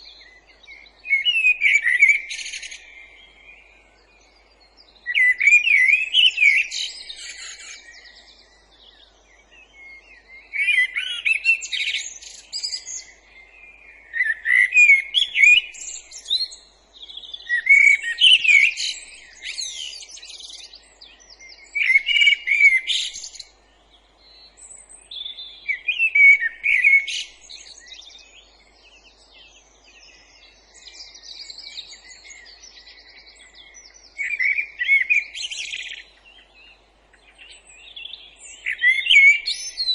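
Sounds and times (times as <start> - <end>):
songbird warbling: 0.0 - 3.7, 4.8 - 39.9.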